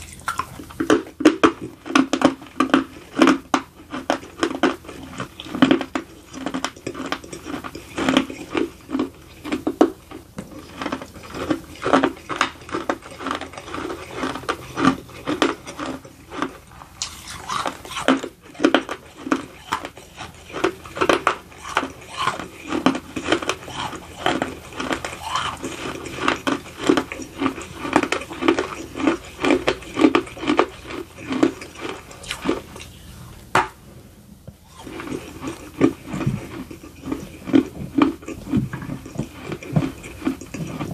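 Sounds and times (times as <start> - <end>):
crunchy chewing: 0.0 - 33.2, 34.6 - 40.9.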